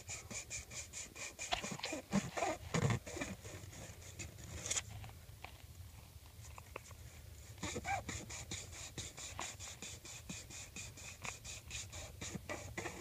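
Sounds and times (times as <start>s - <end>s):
sandpaper scratching plastic pipe: 0.0s - 4.9s, 6.8s - 13.0s.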